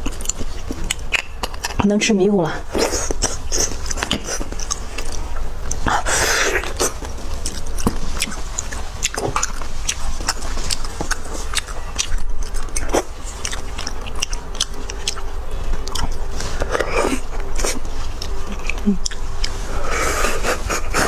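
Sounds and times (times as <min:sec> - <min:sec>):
person chewing and sucking bone marrow: 0:00.0 - 0:01.8, 0:02.6 - 0:21.0.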